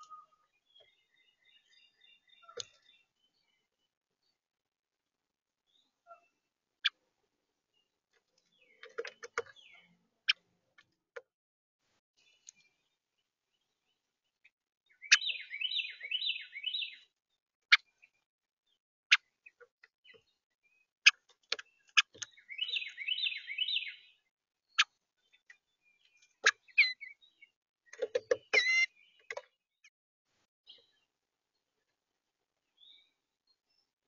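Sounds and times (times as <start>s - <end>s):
songbird chirping: 0.0s - 11.4s, 12.2s - 34.0s.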